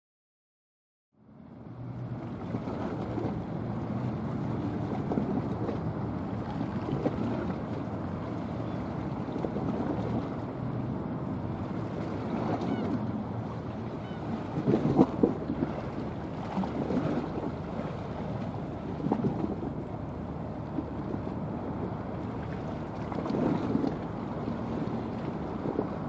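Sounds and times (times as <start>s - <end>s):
low continuous rumble: 1.2s - 26.0s
wind buffeting microphone: 1.6s - 26.0s.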